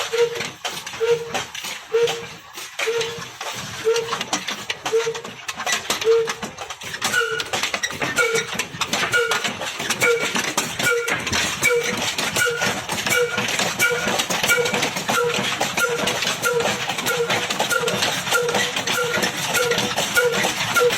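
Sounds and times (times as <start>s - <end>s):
diesel engine: 0.0s - 20.9s
machinery clicking and knocking: 0.0s - 20.9s
rhythmic squeaky tone: 0.0s - 20.9s.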